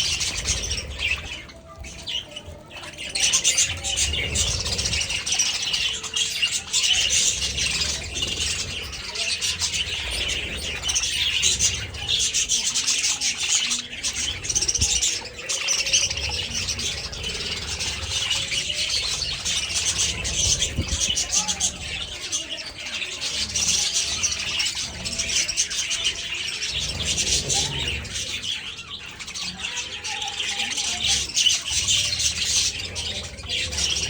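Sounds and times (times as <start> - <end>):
budgerigars squawking and chirping: 0.0 - 34.0.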